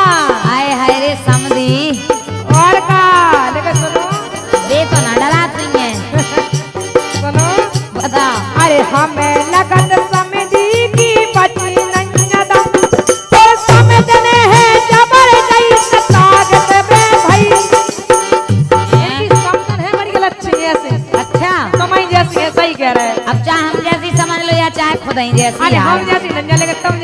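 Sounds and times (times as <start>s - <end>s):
women singing: 0.0s - 18.0s, 18.9s - 27.0s
rattling percussion: 0.0s - 27.0s.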